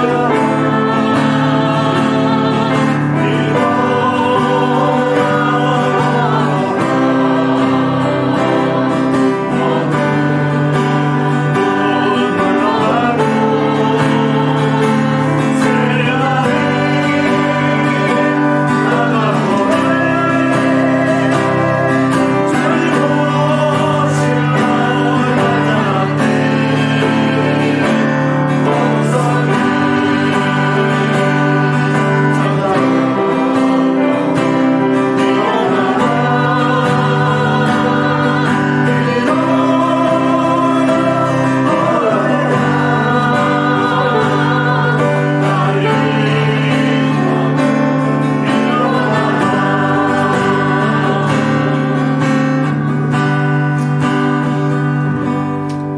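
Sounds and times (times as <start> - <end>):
group singing worship song: 0.0 - 55.9
guitar accompaniment: 0.0 - 55.9.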